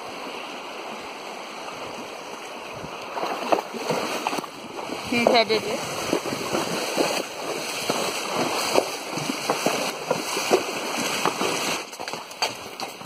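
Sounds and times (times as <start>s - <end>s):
hooves splashing in water: 0.2s - 13.0s.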